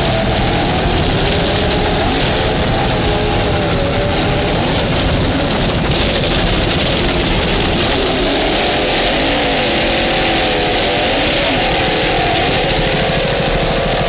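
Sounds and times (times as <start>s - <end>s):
boat engines running at high speed: 0.0s - 14.0s
steady rushing noise: 0.0s - 14.0s.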